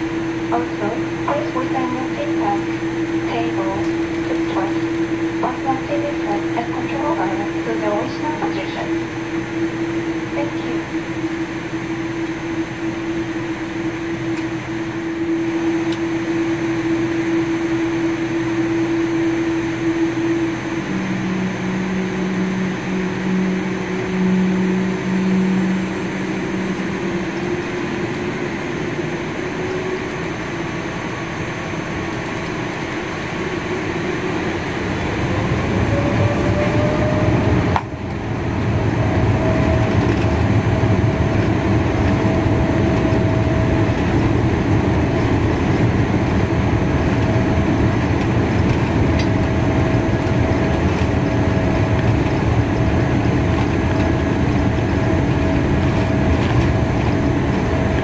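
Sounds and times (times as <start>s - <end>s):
airliner cabin engine hum: 0.0s - 58.0s
jet engines spooling up whine: 0.0s - 58.0s.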